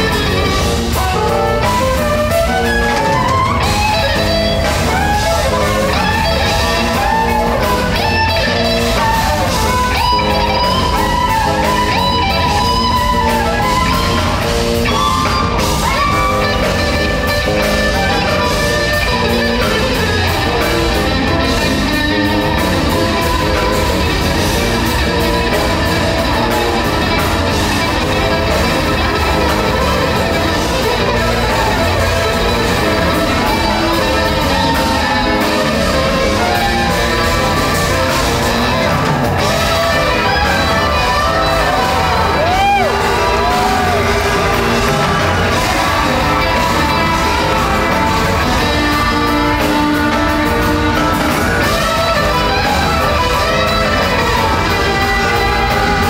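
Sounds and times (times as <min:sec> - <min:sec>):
electric guitar lead line: 0:00.0 - 0:56.0
live jazz-rock band: 0:00.0 - 0:56.0.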